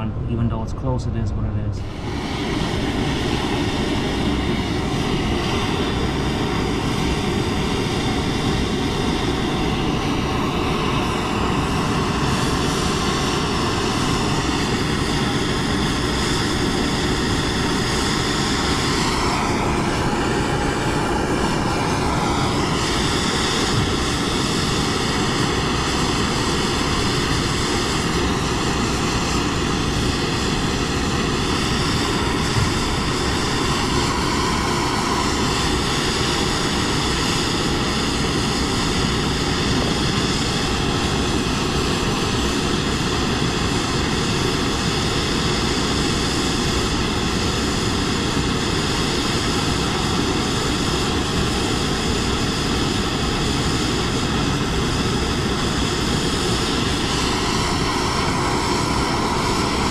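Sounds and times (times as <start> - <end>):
propane torch rushing: 1.8 - 59.9.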